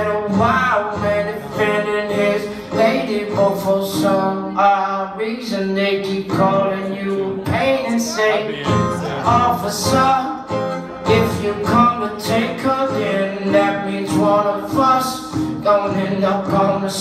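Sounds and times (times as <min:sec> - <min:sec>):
man singing: 0:00.0 - 0:17.0
strummed acoustic guitar: 0:00.0 - 0:17.0.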